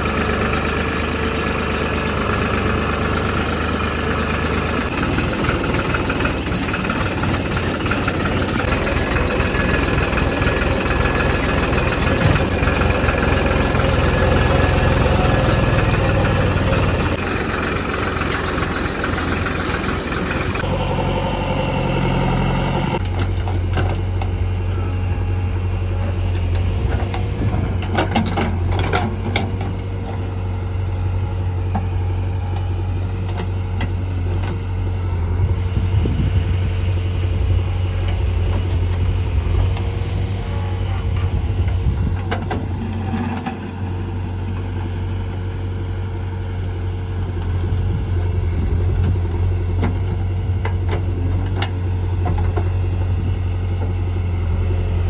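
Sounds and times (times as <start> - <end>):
diesel engine of earthmoving machinery: 0.0 - 55.0.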